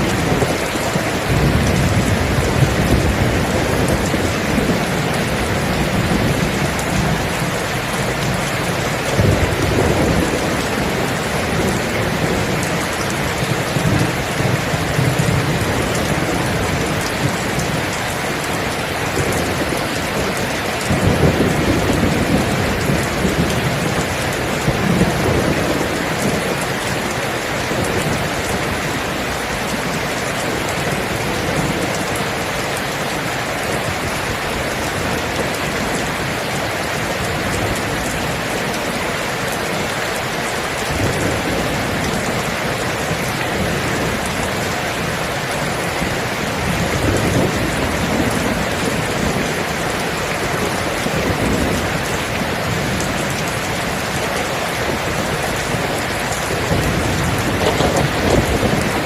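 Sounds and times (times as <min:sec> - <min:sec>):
rolling thunder: 0:00.0 - 0:32.5, 0:40.8 - 0:59.0
steady rain: 0:00.0 - 0:59.0.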